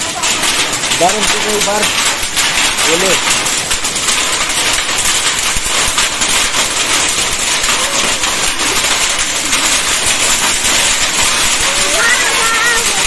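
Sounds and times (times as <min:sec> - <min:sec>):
hailstones ticking on concrete: 0:00.0 - 0:13.0
heavy rain hissing: 0:00.0 - 0:13.0.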